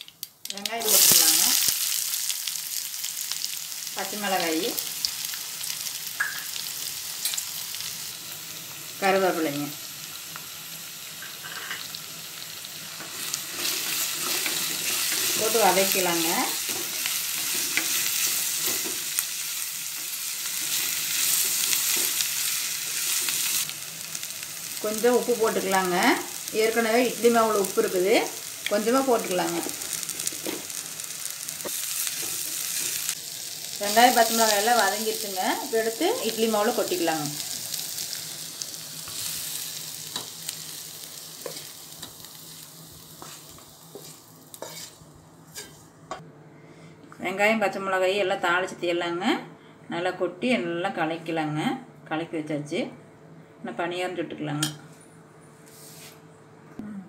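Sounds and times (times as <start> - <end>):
vegetables sizzling in hot oil: 0.0 - 45.8.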